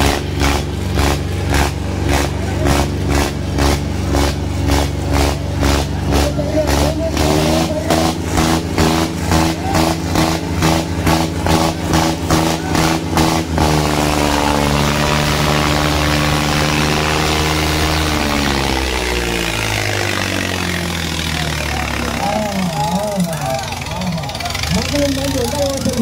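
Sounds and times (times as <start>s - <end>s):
diesel tractor engines under load: 0.0s - 26.0s
loud rhythmic pounding: 0.0s - 26.0s.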